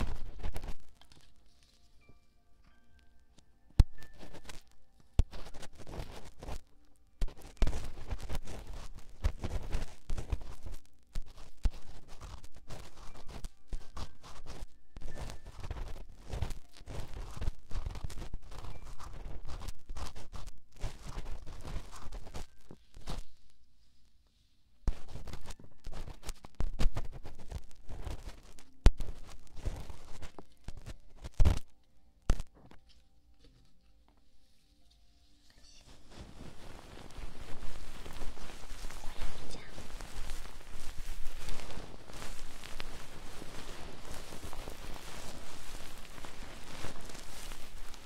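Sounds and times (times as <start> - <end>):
scratching and rustling on microphone: 0.0 - 2.2, 3.3 - 48.0.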